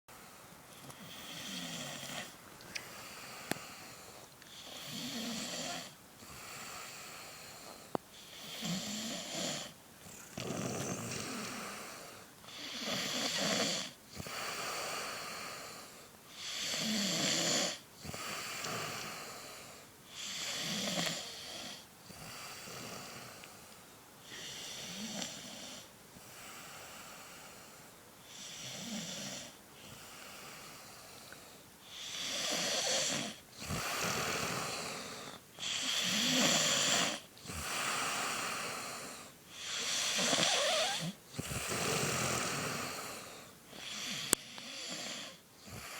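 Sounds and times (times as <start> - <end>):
woman snoring: 1.0 - 2.4, 3.0 - 7.4, 8.2 - 15.8, 16.4 - 19.5, 20.1 - 23.5, 24.2 - 27.6, 28.3 - 30.9, 31.9 - 45.9.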